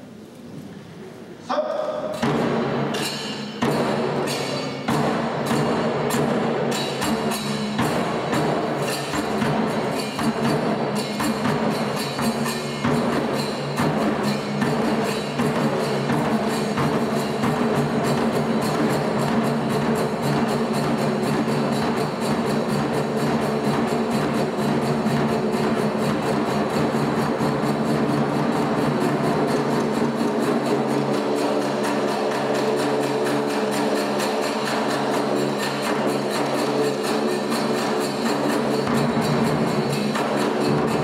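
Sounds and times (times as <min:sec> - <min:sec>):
large drum struck with sticks: 0:02.0 - 0:41.0.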